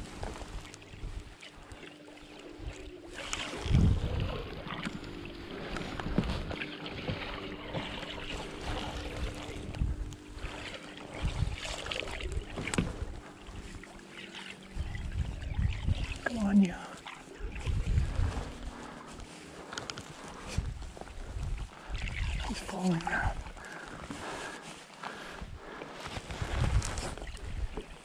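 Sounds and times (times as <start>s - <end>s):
clothing rubbing on microphone: 0.0s - 1.8s, 2.4s - 28.0s
steady low hum: 0.0s - 28.0s.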